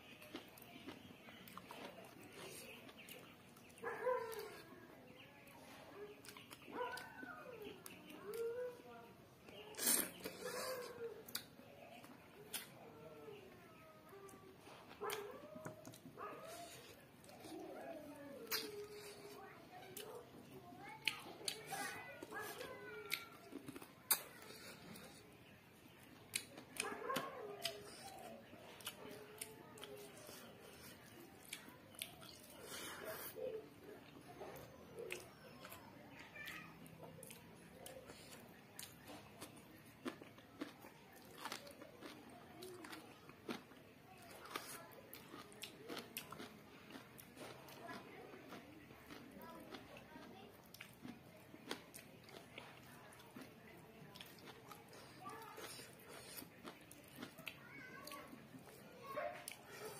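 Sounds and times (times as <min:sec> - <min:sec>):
chewing and lip-smacking: 0:00.0 - 0:13.5, 0:14.1 - 0:59.9
fingers squelching through food: 0:00.0 - 0:13.5, 0:14.2 - 0:58.8.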